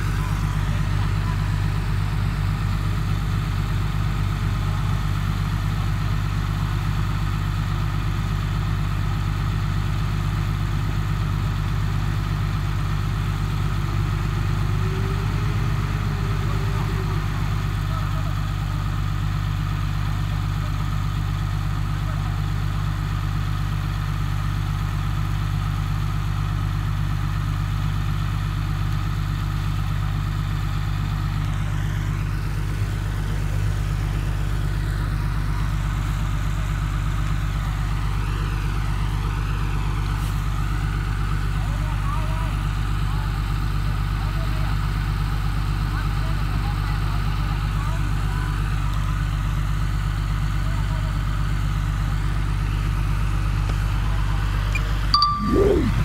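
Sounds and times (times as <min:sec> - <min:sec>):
diesel engine droning: 0:00.0 - 0:49.9, 0:50.6 - 0:56.0.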